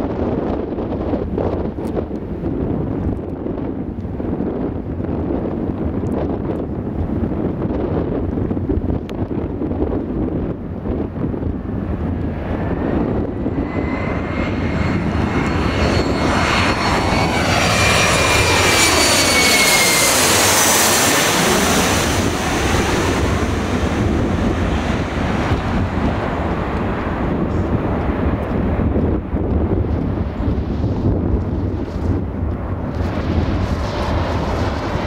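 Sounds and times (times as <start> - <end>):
jet airliner passing overhead: 0.0 - 35.0
wind buffeting microphone: 0.0 - 35.0.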